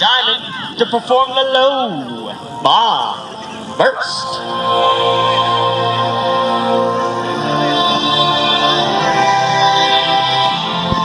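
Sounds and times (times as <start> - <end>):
music over public address system: 0.0 - 11.0.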